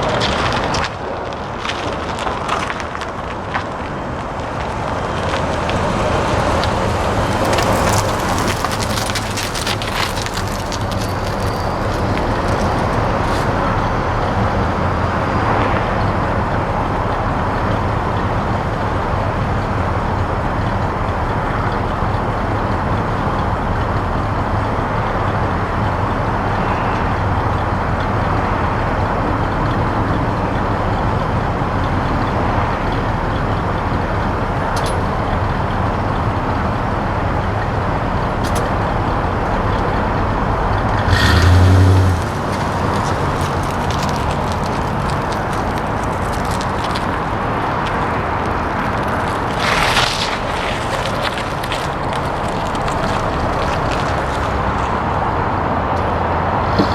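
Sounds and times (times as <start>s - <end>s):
pickup truck engine running: 2.3s - 56.9s.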